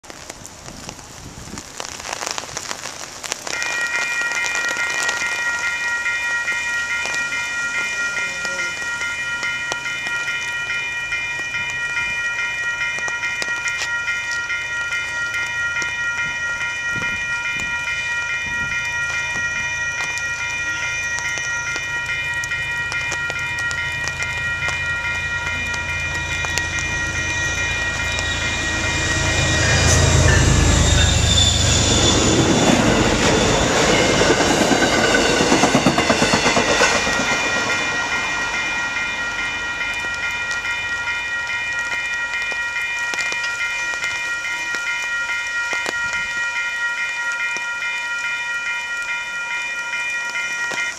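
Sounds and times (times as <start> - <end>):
train passing: 0.1 - 50.9
crossing signal bell ringing: 3.4 - 50.9.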